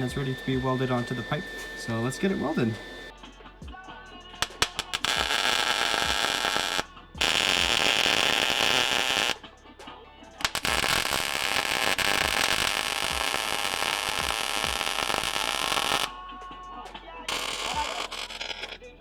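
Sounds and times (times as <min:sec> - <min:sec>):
welding arc crackling: 0:00.0 - 0:03.2, 0:04.4 - 0:09.4, 0:10.4 - 0:16.2, 0:17.3 - 0:18.8
background music with low beat: 0:00.0 - 0:19.0.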